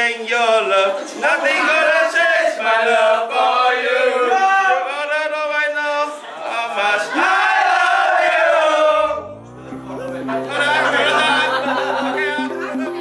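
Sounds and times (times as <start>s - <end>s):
men singing together: 0.4s - 12.7s.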